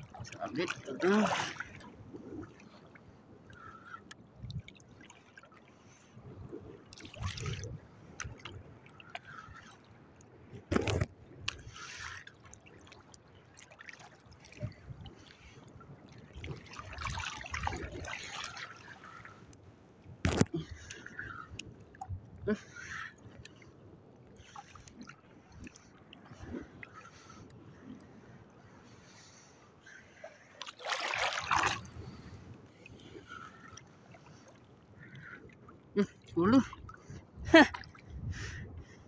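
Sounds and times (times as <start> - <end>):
seawater sloshing and trickling: 0.0 - 6.2, 6.8 - 19.6, 24.3 - 39.0.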